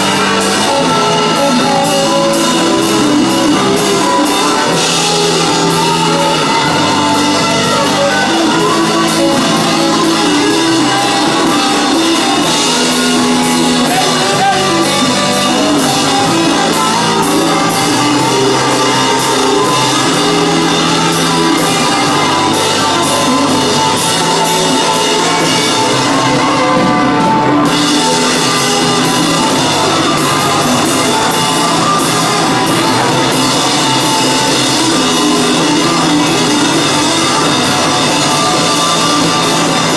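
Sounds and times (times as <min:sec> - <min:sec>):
drum kit: 0:00.0 - 0:39.9
electric guitars: 0:00.0 - 0:39.9
person singing: 0:00.0 - 0:39.9.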